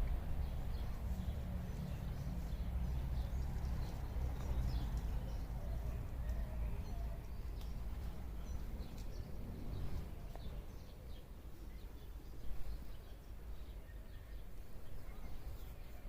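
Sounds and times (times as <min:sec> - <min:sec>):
steady low rumble: 0:00.0 - 0:14.8
small birds chirping: 0:00.0 - 0:16.0.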